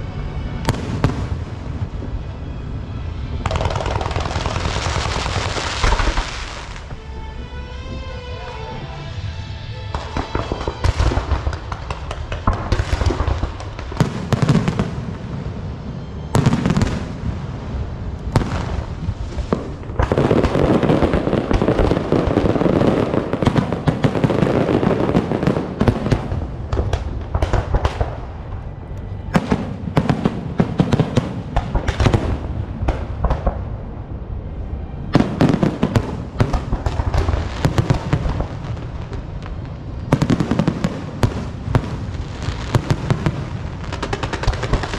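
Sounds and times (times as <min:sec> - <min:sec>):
fireworks bangs and crackling: 0:00.0 - 0:07.0, 0:09.9 - 0:44.9.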